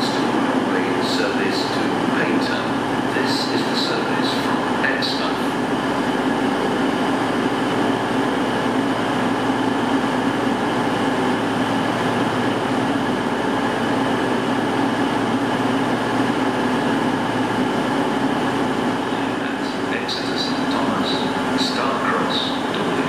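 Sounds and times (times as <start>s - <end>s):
diesel train engine droning: 0.0s - 23.0s.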